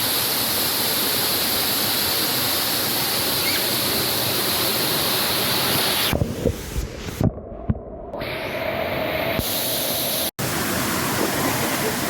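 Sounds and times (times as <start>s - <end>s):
waterfall rushing: 0.0s - 6.2s, 8.3s - 12.0s.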